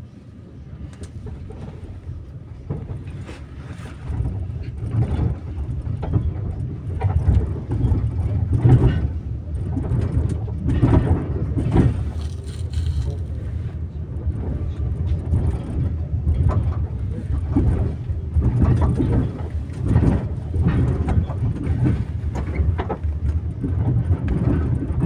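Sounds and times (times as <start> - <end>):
tram motor and wheel rumble: 0.0 - 25.0
wheels knocking on rails: 2.6 - 13.3, 14.3 - 25.0.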